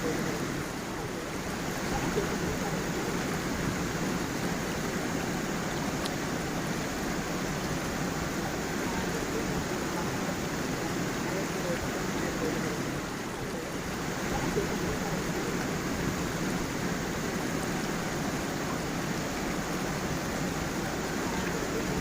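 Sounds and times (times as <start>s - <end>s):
stream flowing over stones: 0.0s - 22.0s.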